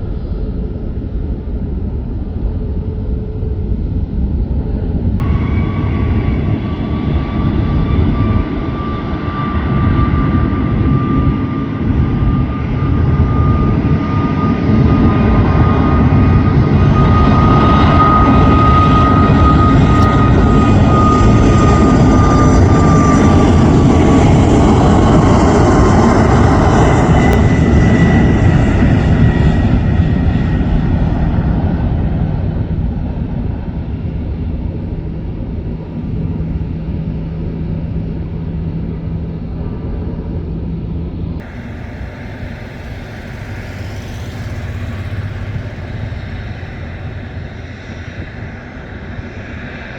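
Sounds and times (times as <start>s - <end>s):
jet airliner taking off: 0.0s - 49.9s.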